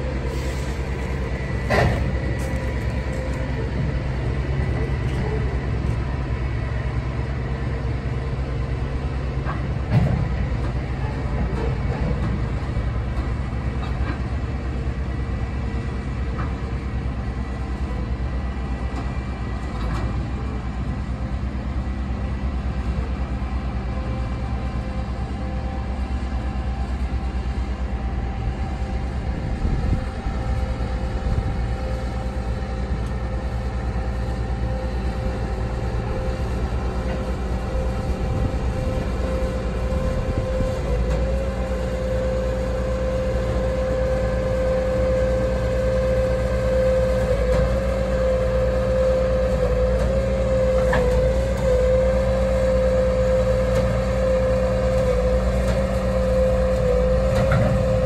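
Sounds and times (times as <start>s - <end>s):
machine engine rumbling: 0.0s - 58.0s
steady whine: 0.0s - 58.0s.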